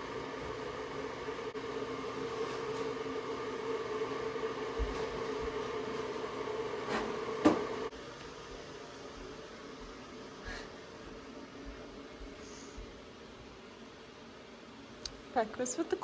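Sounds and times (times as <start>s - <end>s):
appliance humming: 0.0s - 16.0s.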